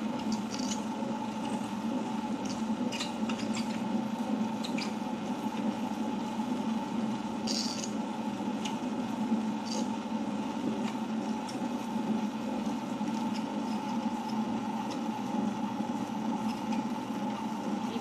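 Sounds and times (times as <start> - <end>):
wet grinder humming: 0.0 - 18.0.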